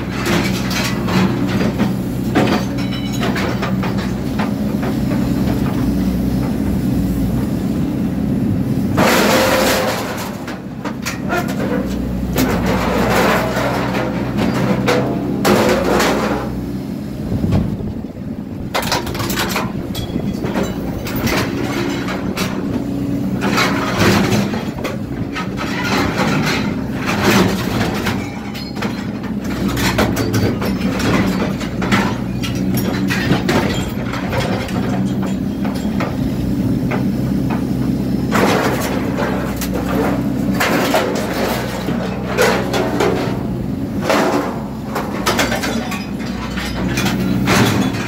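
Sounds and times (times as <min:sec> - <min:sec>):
metal clanks and scrapes: 0:00.0 - 0:06.6, 0:09.0 - 0:16.6, 0:18.7 - 0:48.0
excavator diesel engine running: 0:00.0 - 0:48.0.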